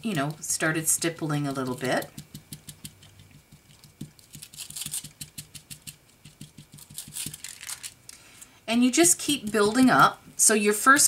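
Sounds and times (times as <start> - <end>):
applicator dabbing on foil: 0.1 - 8.0, 9.0 - 10.2.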